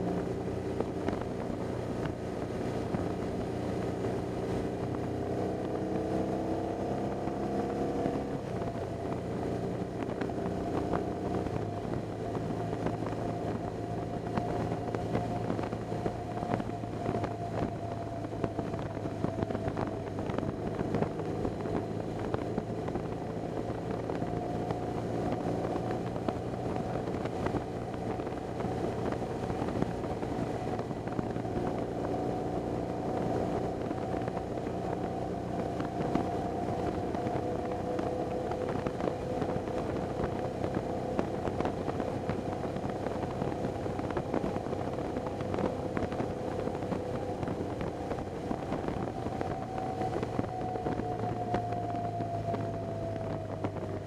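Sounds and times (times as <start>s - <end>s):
motorcycle engine running: 0.0s - 54.0s
wind on microphone: 0.0s - 54.0s.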